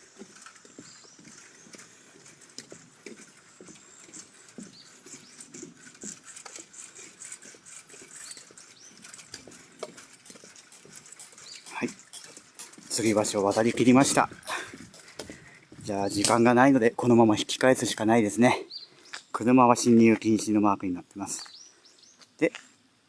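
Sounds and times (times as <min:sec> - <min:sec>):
footsteps on footbridge deck: 0:00.0 - 0:22.7.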